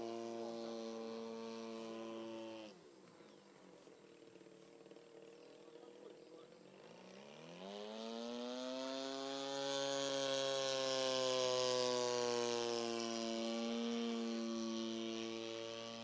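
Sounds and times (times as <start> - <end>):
model plane engine buzzing: 0.0 - 16.0.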